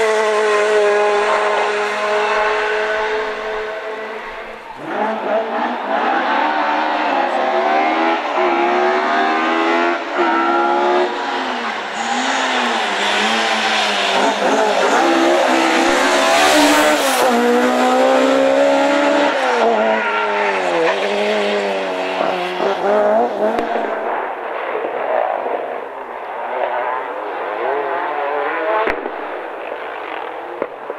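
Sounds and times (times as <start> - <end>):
rally car engine revving: 0.0 - 25.7, 26.5 - 30.8.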